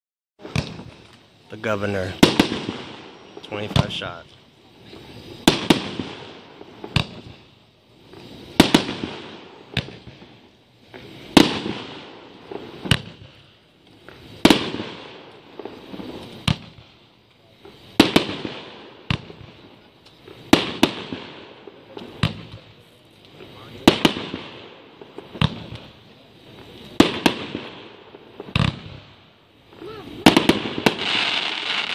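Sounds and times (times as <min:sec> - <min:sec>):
fireworks bangs: 0:00.4 - 0:31.9.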